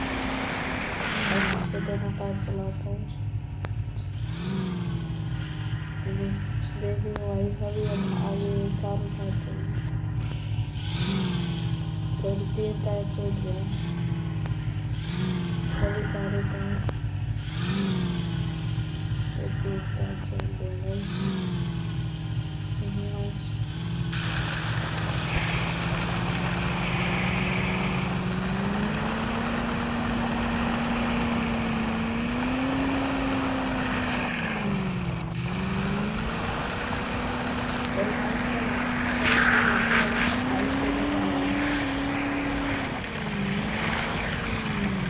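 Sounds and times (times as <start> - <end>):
engine revving under load: 0.0 - 45.0
rough tyre and ground noise: 0.0 - 45.0.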